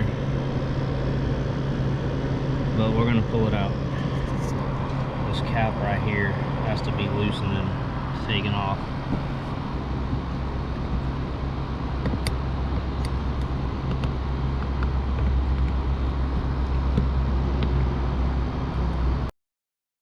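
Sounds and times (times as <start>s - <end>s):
low mechanical hum: 0.0s - 19.3s.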